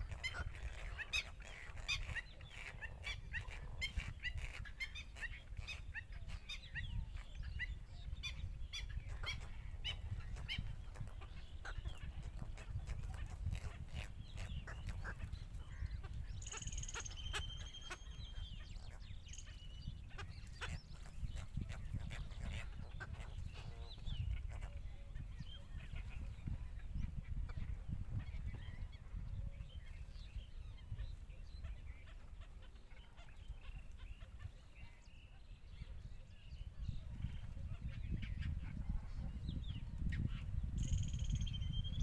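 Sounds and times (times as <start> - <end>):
birds chirping and calling: 0.0 - 42.0.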